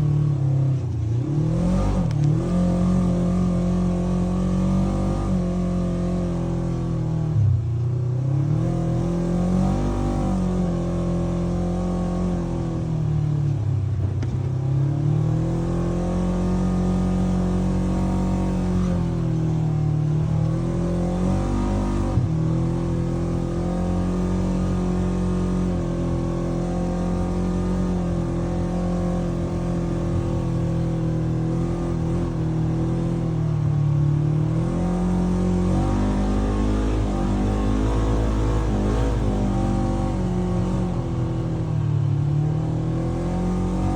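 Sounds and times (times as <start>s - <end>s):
engine running at high revs: 0.0s - 7.5s, 8.2s - 13.0s, 14.0s - 43.9s.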